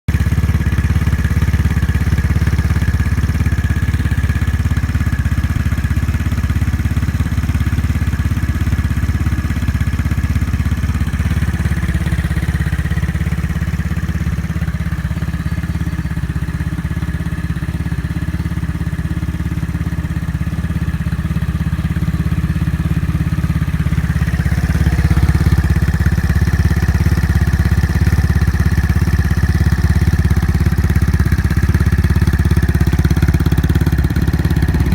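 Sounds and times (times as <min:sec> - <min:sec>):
scooter engine idling: 0:00.1 - 0:34.9.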